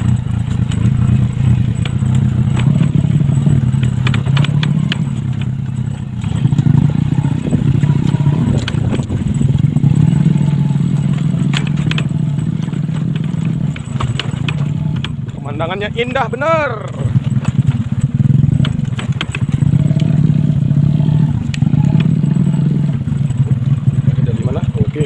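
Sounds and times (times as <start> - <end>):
clattering knocks of bike jolting: 0.0 - 25.0
motorcycle engine running: 0.0 - 25.0.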